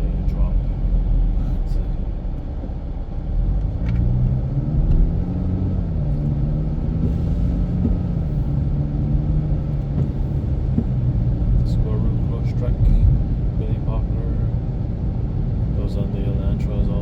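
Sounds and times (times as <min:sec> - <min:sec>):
car engine accelerating: 0:00.0 - 0:17.0
low road rumble: 0:00.0 - 0:17.0.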